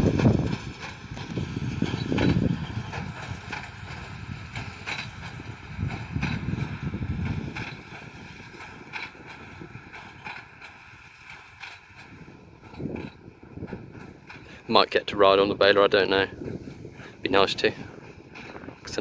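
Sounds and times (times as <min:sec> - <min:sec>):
tractor and baler working: 0:00.0 - 0:19.0
wind buffeting microphone: 0:00.0 - 0:19.0.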